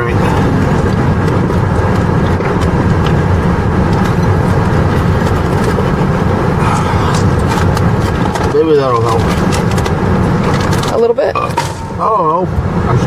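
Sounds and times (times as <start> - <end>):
car engine rumble in cabin: 0.0 - 13.0.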